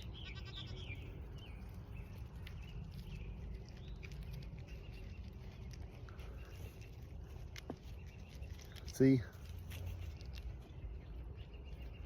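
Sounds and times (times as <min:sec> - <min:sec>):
birds chirping faintly: 0:00.0 - 0:12.0
steady low rumble: 0:00.0 - 0:12.0.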